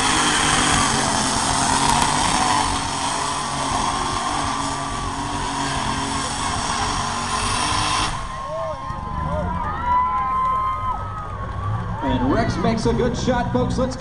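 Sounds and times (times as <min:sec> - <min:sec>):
tractor diesel engine running hard: 0:00.0 - 0:14.0.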